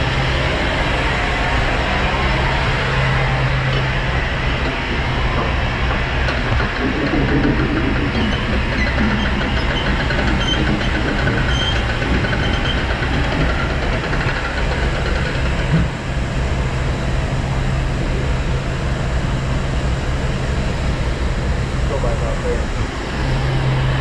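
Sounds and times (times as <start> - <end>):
idling truck and machinery drone: 0.0 - 24.0.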